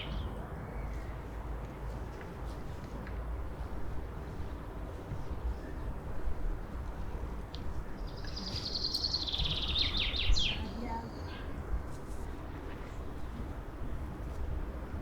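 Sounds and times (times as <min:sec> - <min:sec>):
low city background noise: 0:00.0 - 0:15.0.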